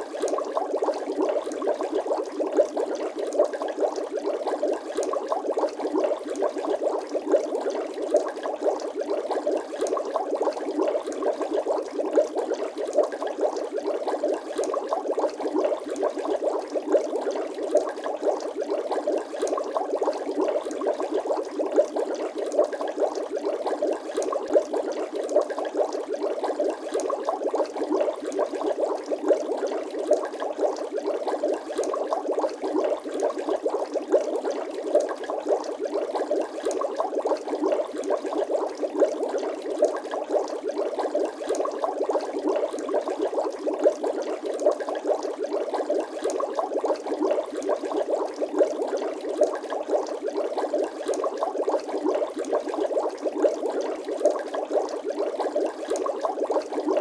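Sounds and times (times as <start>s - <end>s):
water bubbling and gurgling: 0.0s - 57.0s.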